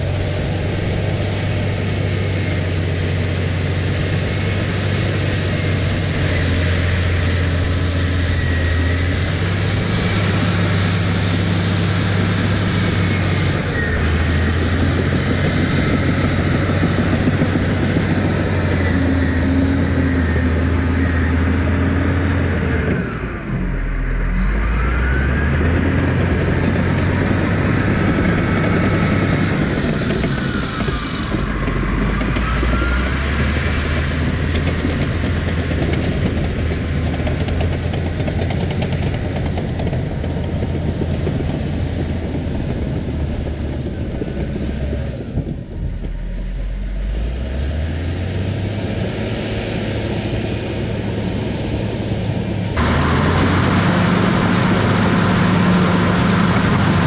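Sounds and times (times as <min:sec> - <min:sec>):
earthmoving machine engine: 0:00.0 - 0:57.0.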